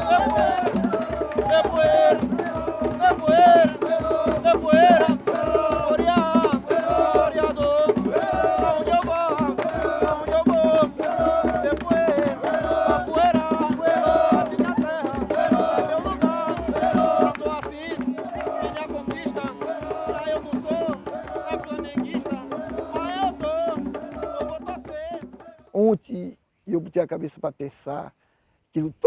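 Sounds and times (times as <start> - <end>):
steady drumming and percussion: 0.0 - 25.8.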